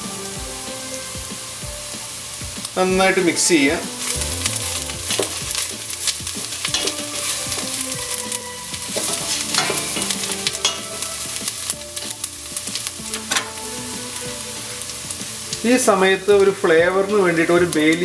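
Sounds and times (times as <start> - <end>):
onion and garlic sizzling in butter: 0.0 - 18.0.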